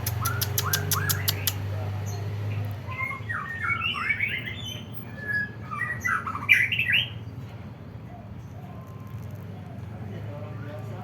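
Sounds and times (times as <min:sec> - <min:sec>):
songbird singing: 0:00.0 - 0:10.8.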